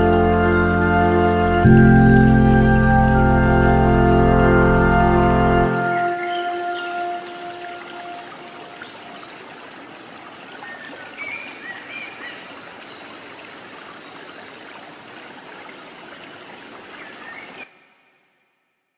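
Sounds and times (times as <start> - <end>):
stream flowing water: 0.0 - 18.2.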